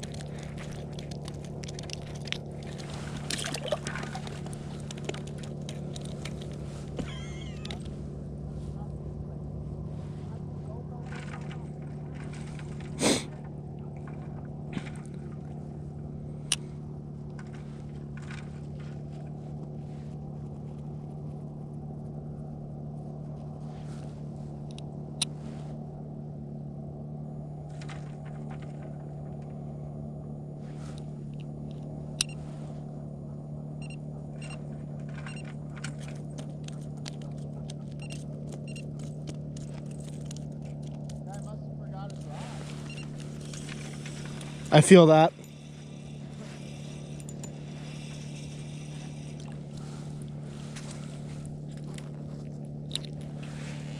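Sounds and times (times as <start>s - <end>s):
motor humming: 0.0s - 53.9s.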